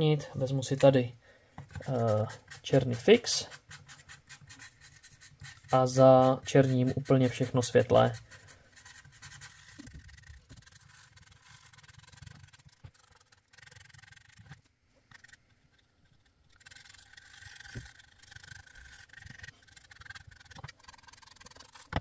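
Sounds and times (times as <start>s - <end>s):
felt-tip marker scrubbing on paper: 1.7s - 21.9s.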